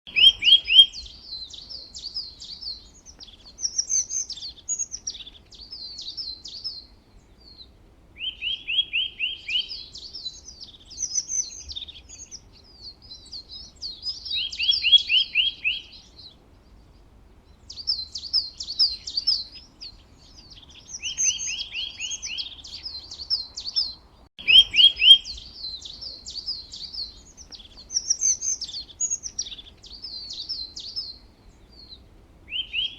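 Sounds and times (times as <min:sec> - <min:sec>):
songbird singing: 0:00.1 - 0:32.9.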